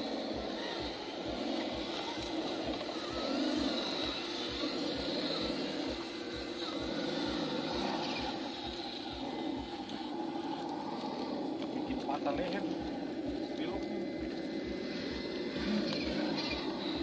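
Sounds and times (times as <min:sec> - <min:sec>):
toy car electric motor whirring: 0:00.0 - 0:17.0.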